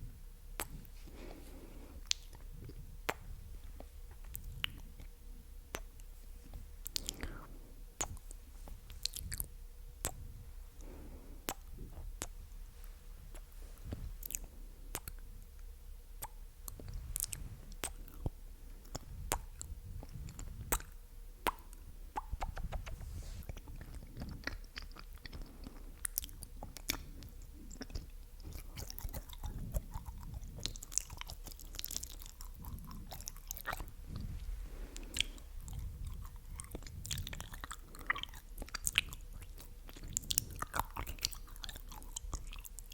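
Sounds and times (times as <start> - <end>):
wet mouth clicks and smacks: 0.6 - 1.0, 2.0 - 10.3, 11.4 - 12.4, 13.3 - 34.3, 35.0 - 42.9.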